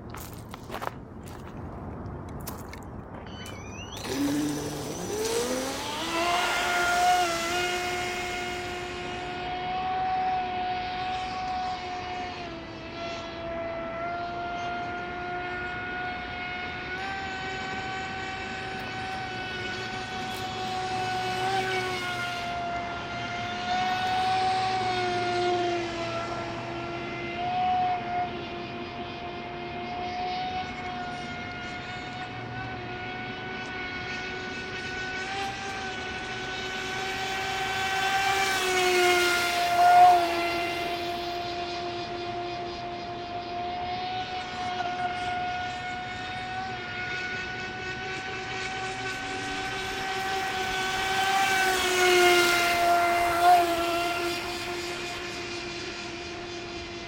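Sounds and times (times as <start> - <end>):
electric motor high whine: 3.1 - 57.0.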